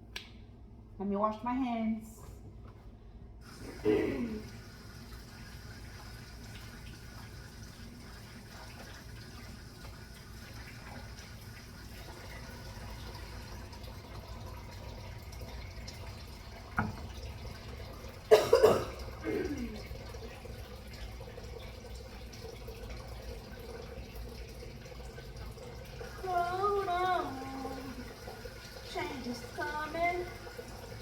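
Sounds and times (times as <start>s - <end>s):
hands washing at sink: 3.4s - 31.0s
kitchen tap running: 3.4s - 31.0s.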